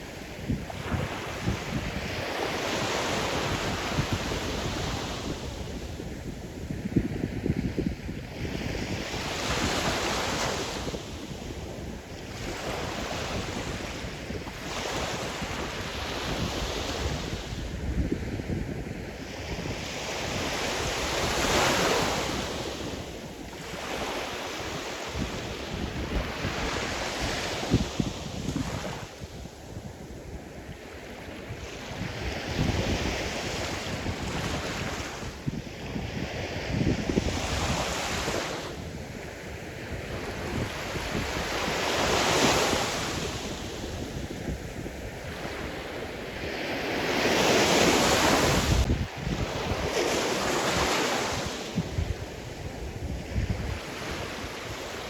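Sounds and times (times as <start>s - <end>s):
waves breaking on shore: 0.0s - 18.0s, 18.6s - 55.0s
wind rumble on microphone: 0.0s - 55.0s.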